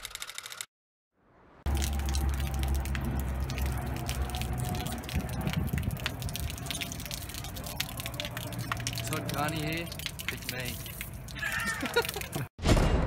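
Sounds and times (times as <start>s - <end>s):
hose water spraying on metal fence: 1.7s - 12.4s.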